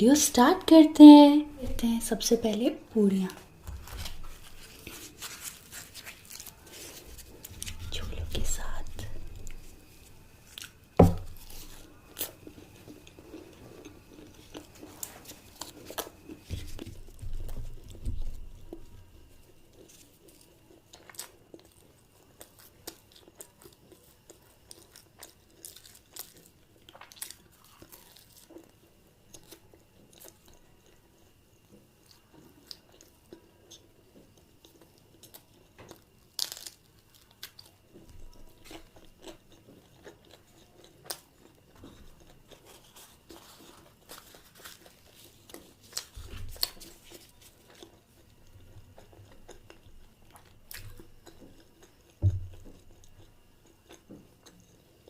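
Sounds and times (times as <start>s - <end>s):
person chewing food: 3.3s - 55.0s.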